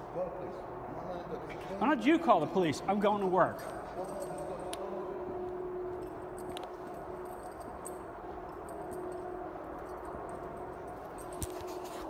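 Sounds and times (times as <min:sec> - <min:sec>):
low ventilation hum: 0:00.0 - 0:12.0.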